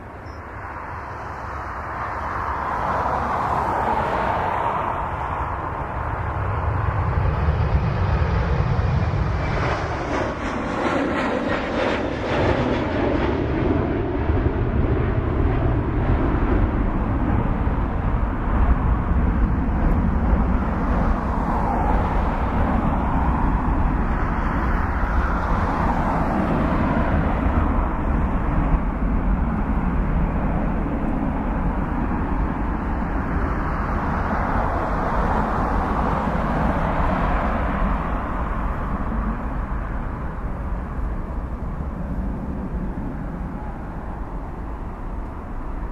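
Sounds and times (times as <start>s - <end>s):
jet engines roaring at taxi: 0.0s - 45.9s.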